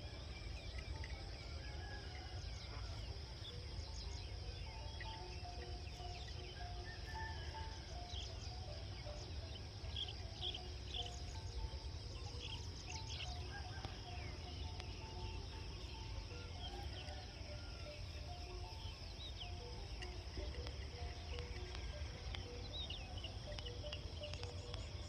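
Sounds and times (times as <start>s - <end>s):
bird chirps: 0.0s - 25.0s
high-pitched insect drone: 0.0s - 25.0s.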